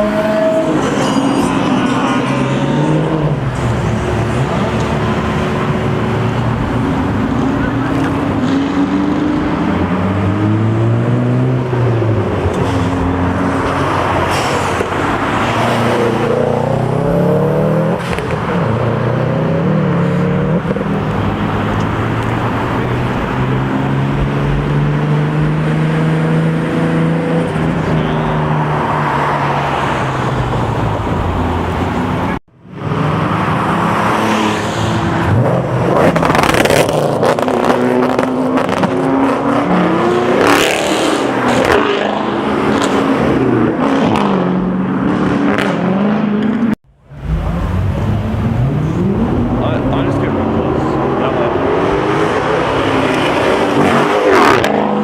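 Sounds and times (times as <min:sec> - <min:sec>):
cars driving past: 0:00.0 - 0:55.0.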